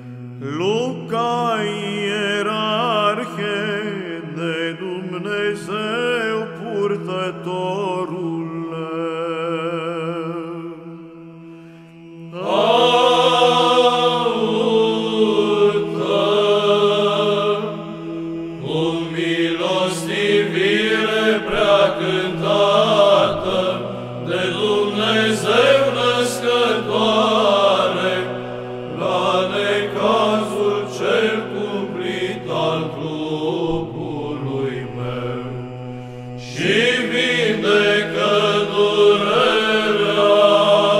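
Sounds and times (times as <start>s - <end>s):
chant melody singing: 0.0s - 40.9s.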